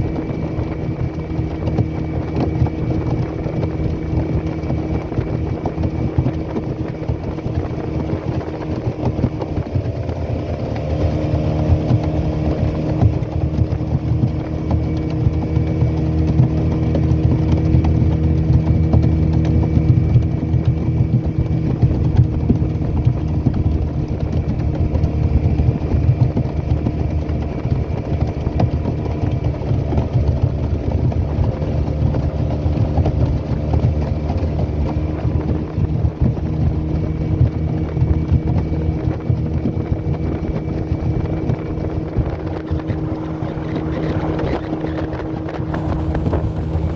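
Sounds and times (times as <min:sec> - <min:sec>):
boat motor droning: 0:00.0 - 0:46.9.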